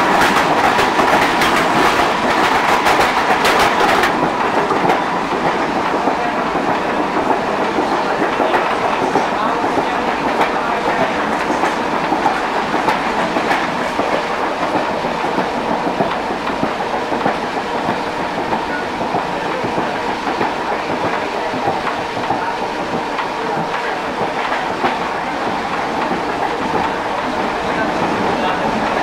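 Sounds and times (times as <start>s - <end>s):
train running noise: 0.0s - 29.0s
wheels clicking over rail joints: 0.0s - 29.0s.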